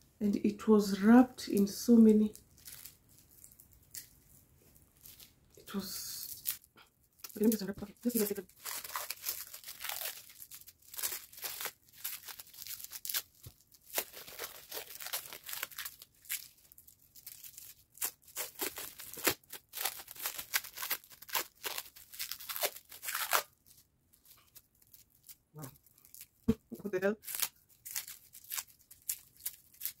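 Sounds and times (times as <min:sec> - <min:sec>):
packaging being torn and crumpled: 0:02.3 - 0:04.4, 0:05.0 - 0:26.5, 0:27.2 - 0:30.0.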